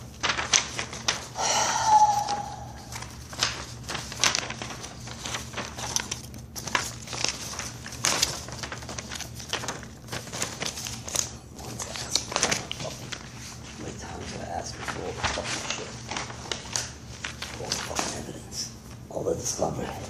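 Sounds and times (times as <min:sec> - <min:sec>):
paper rustling and crinkling: 0:00.0 - 0:20.0
steady low hum: 0:00.0 - 0:20.0.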